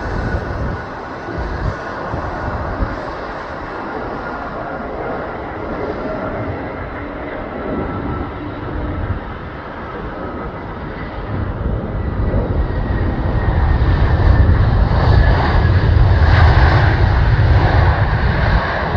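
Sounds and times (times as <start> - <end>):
jet airliner engines rumbling: 0.0 - 18.9.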